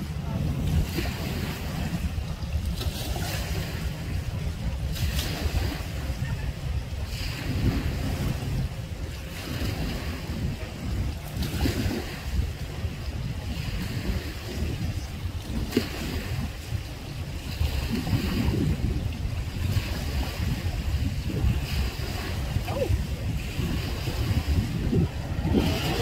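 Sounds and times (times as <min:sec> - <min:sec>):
small waves lapping: 0:00.0 - 0:26.0
wind buffeting microphone: 0:00.0 - 0:26.0.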